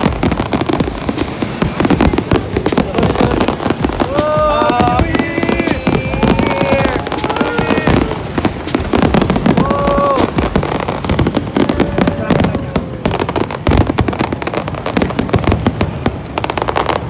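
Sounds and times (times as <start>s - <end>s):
fireworks crackling bangs: 0.0s - 17.0s.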